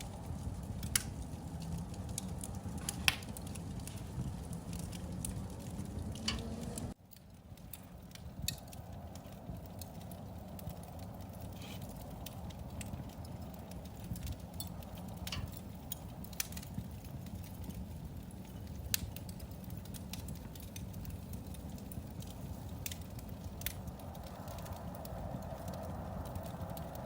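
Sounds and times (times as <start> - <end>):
fire crackles and pops: 0.0 - 27.0
fire rumbling: 0.0 - 27.0.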